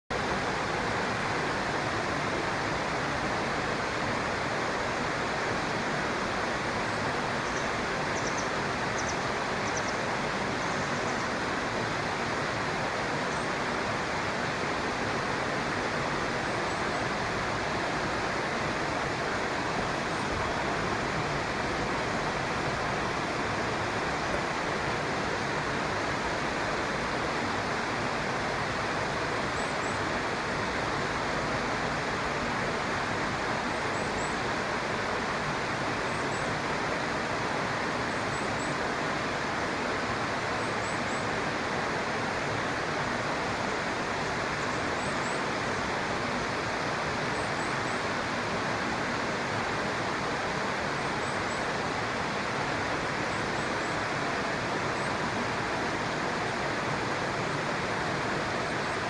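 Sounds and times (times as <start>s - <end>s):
stream water flowing: 0.1s - 59.0s.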